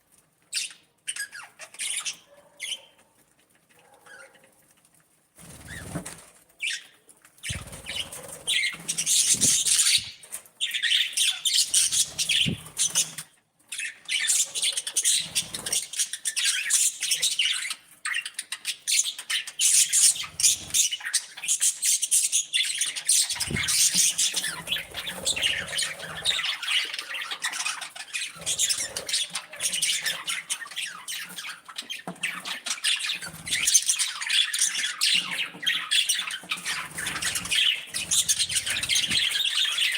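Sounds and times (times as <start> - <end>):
budgerigars chattering and squawking: 0.6 - 3.0, 6.6 - 39.9.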